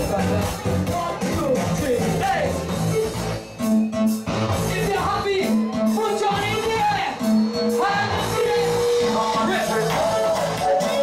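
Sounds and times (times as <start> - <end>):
live band playing dance music: 0.0 - 11.0
steady bass line: 0.0 - 11.0.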